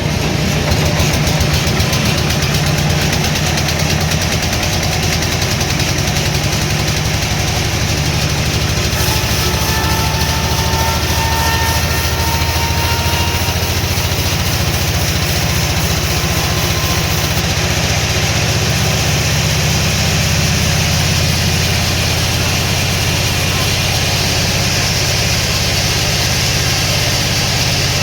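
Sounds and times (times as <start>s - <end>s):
heavy engine idling: 0.0s - 28.0s.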